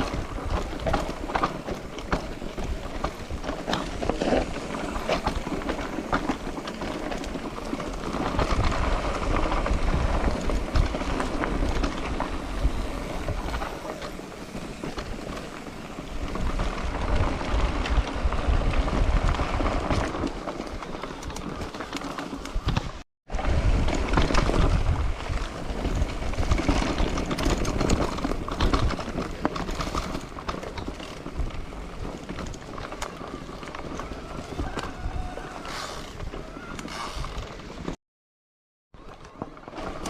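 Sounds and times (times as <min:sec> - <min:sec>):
bicycle tyres crunching on trail: 0:00.0 - 0:38.0, 0:39.0 - 0:40.0
bike rattling: 0:00.0 - 0:38.0, 0:39.0 - 0:40.0
wind rumbling on microphone: 0:00.0 - 0:38.0.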